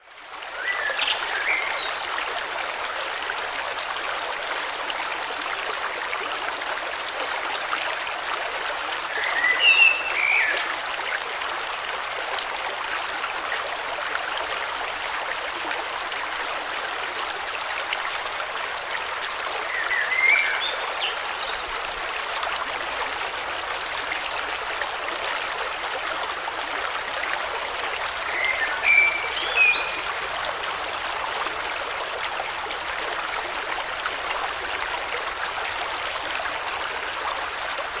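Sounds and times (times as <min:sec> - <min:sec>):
river water flowing: 0:00.0 - 0:38.0.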